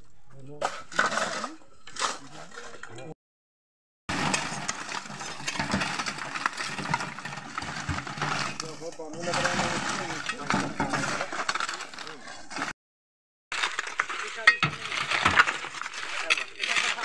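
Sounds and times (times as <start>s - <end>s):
shovels scraping and digging: 0.5s - 3.0s, 4.1s - 12.8s, 13.5s - 17.0s.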